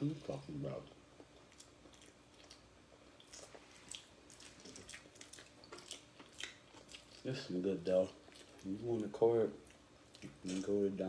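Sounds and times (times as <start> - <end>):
chewing soft bread: 0.0 - 11.0.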